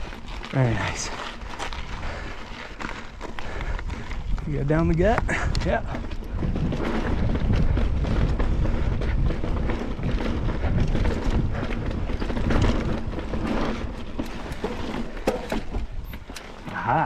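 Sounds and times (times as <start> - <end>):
bike clicks and rattles: 0.0 - 17.0
wind and tyre rumble: 0.0 - 17.0.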